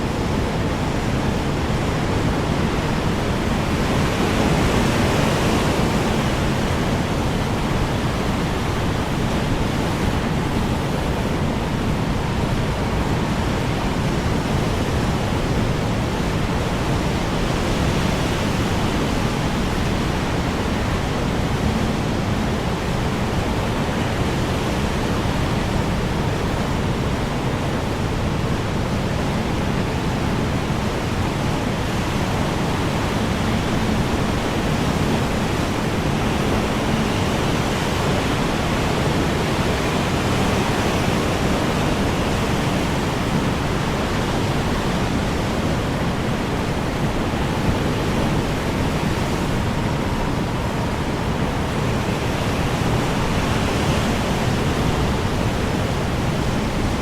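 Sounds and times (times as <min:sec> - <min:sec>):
strong wind blowing: 0:00.0 - 0:57.0.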